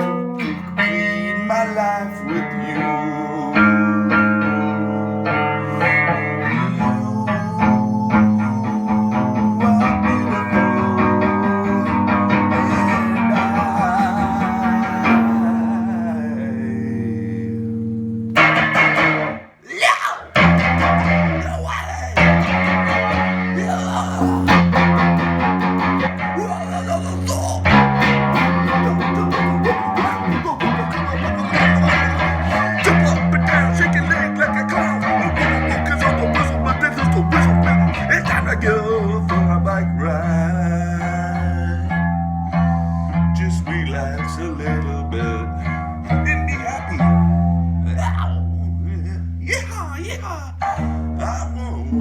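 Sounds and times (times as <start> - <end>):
guitar over bass line: 0.0 - 19.6, 20.3 - 52.0.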